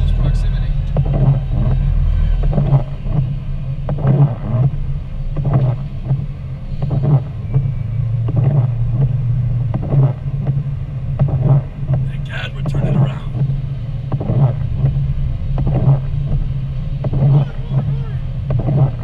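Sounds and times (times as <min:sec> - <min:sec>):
car engine and tyre drone: 0:00.0 - 0:19.0
windshield wipers knocking: 0:00.0 - 0:19.0.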